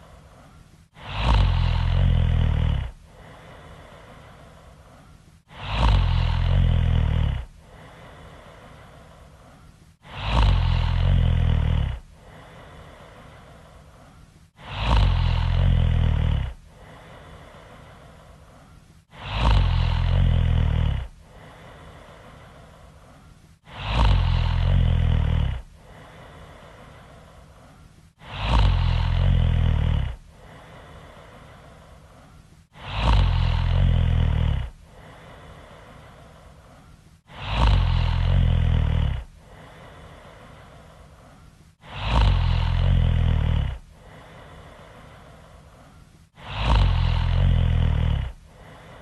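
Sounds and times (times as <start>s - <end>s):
loud rasping snoring: 0.0s - 4.6s, 5.5s - 18.2s, 19.1s - 22.8s, 23.6s - 27.6s, 28.2s - 32.0s, 32.7s - 40.8s, 41.8s - 45.3s, 46.3s - 49.0s
quiet breath: 0.0s - 49.0s.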